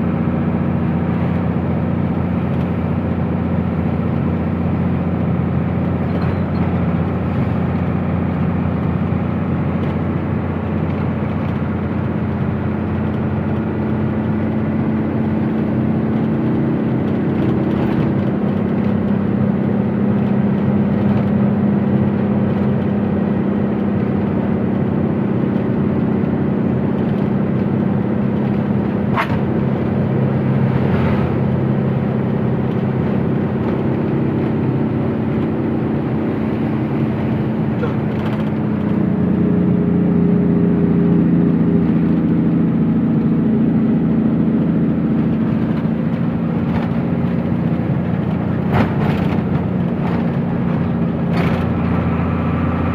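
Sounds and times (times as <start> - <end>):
truck engine running: 0.0 - 52.9.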